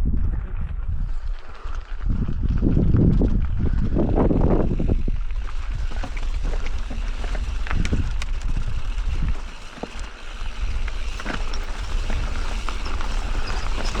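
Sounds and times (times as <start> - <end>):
bike tyres rattling over stones: 0.0 - 14.0
wind buffeting microphone: 0.0 - 14.0.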